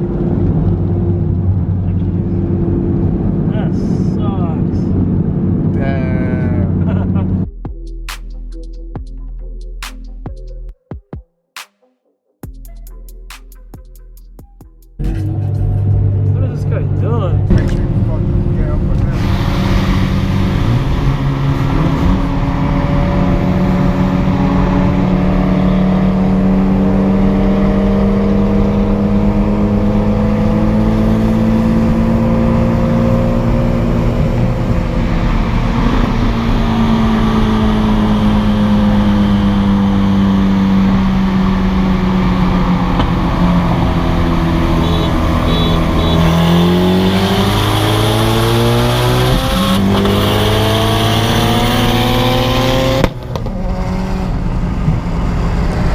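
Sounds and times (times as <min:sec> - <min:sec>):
car engine revving: 0:00.0 - 0:08.3, 0:15.0 - 0:55.9.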